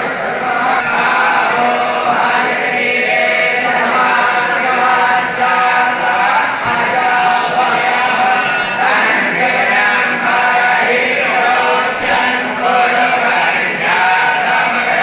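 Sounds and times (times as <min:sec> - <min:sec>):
voices chanting a hymn: 0:00.0 - 0:15.0.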